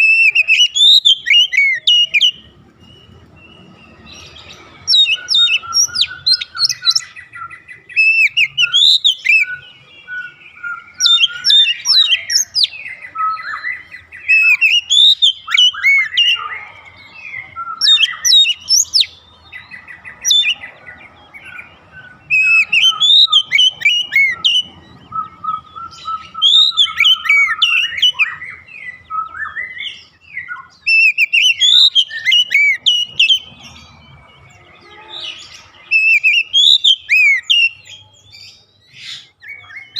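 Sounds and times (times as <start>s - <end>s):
songbird singing whistled phrases: 0.0s - 20.7s, 21.4s - 33.5s, 34.9s - 39.9s.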